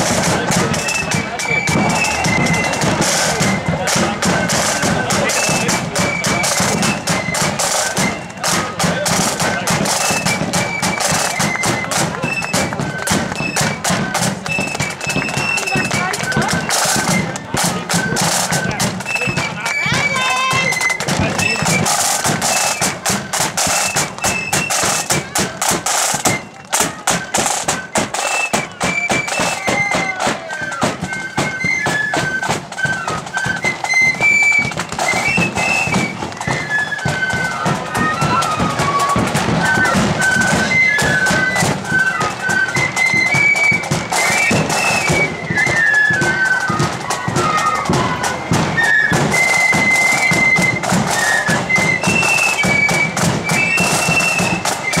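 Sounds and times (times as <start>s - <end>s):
flutes playing melody: 0.0s - 55.0s
side drums: 0.0s - 55.0s.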